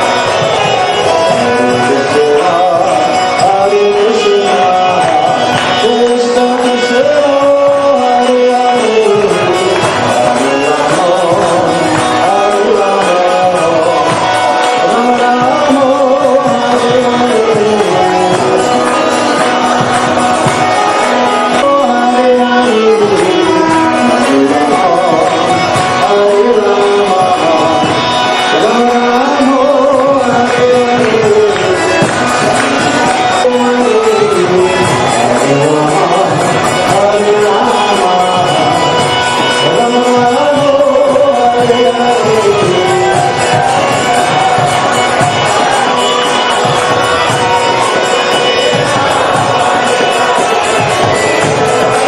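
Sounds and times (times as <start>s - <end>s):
hand drum beating: 0.0s - 52.0s
voices singing devotional melody: 0.0s - 52.0s.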